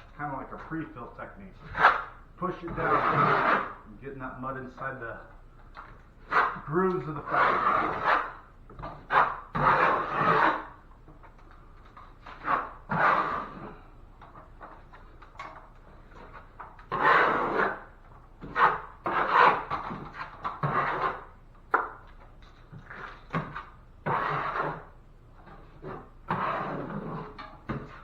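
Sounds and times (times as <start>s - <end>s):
drywall knife scraping compound: 0.0s - 4.0s, 6.2s - 10.8s, 11.9s - 13.8s, 14.6s - 28.0s.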